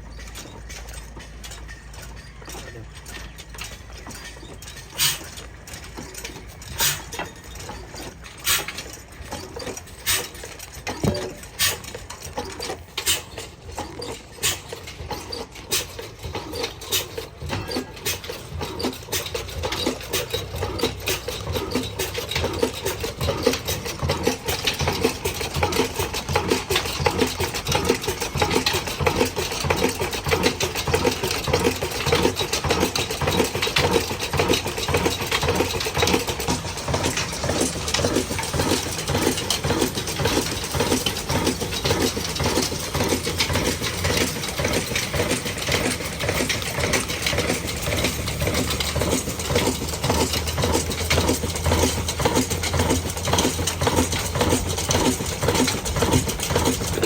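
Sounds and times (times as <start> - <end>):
stationary diesel engine running: 0.0 - 57.0.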